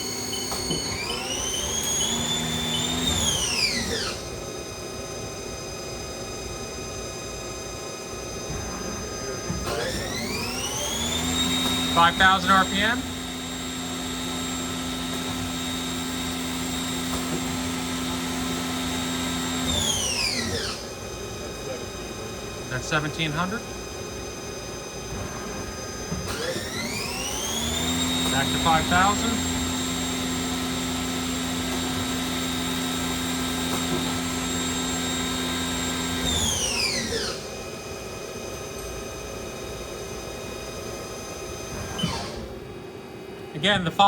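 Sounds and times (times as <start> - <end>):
lathe spindle whine: 0.0 - 4.3, 6.8 - 42.4.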